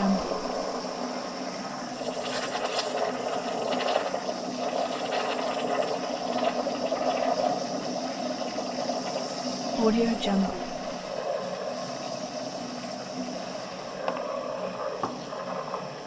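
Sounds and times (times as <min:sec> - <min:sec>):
milk frother foaming: 0:00.0 - 0:16.0.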